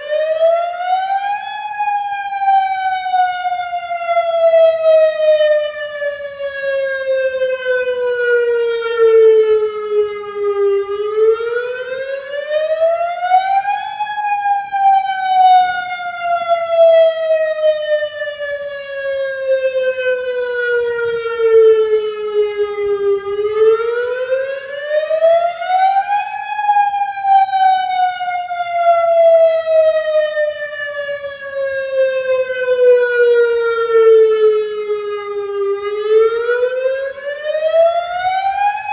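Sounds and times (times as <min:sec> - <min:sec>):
warning siren wail: 0:00.0 - 0:38.9.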